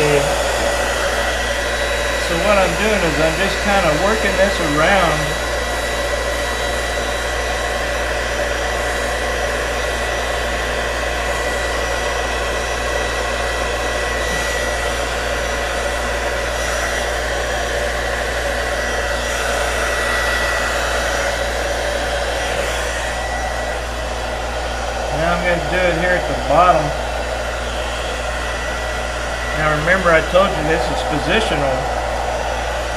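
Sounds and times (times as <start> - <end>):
hot-air gun blowing with whine: 0.0 - 32.9.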